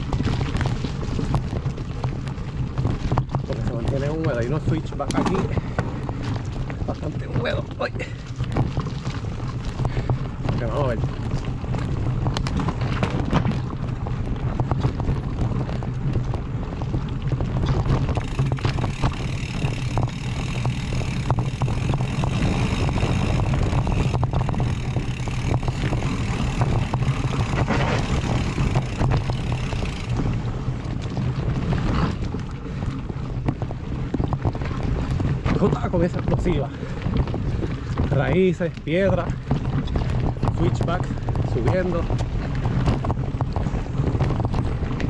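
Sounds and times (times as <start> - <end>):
bike rattling: 0.0 - 45.0
bike tyres crunching on dirt: 0.0 - 45.0
wind buffeting microphone: 0.0 - 45.0.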